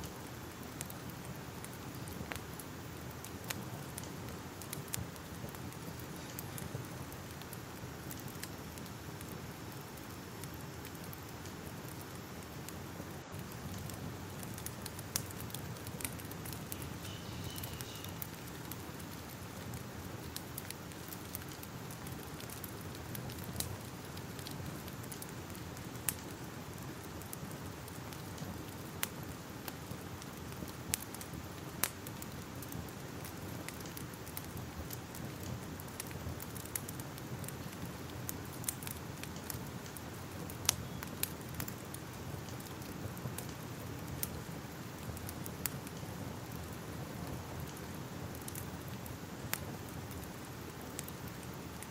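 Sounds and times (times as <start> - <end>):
fire crackling: 0.0 - 51.9.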